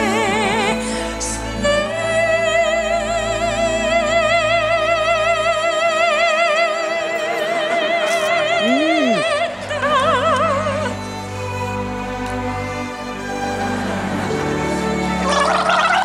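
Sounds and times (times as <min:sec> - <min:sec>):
musical accompaniment: 0:00.0 - 0:16.0
operatic soprano singing: 0:00.0 - 0:16.0.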